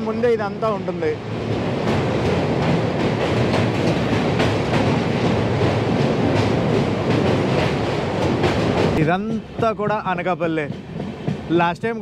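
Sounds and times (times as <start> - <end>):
rail joint clicks: 0.0 - 12.0
train wheels rumbling on bridge: 0.0 - 12.0.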